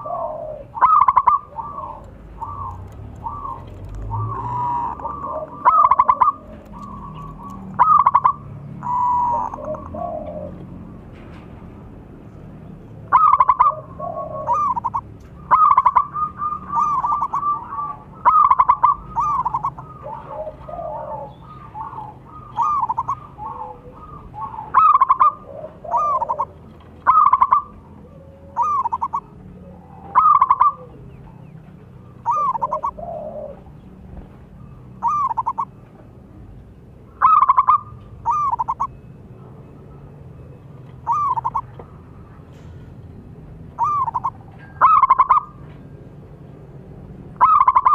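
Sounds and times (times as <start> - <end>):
dove cooing: 0.0 - 11.4, 12.5 - 45.8, 47.3 - 47.9.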